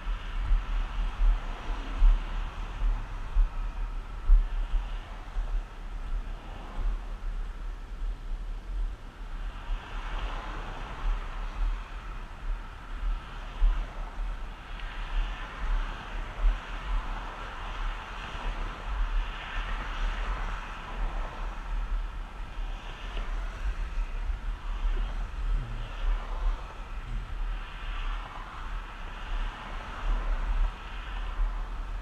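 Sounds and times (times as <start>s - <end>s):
passing cars: 0.0s - 32.0s
road noise: 0.0s - 32.0s
wind buffeting microphone: 0.0s - 32.0s.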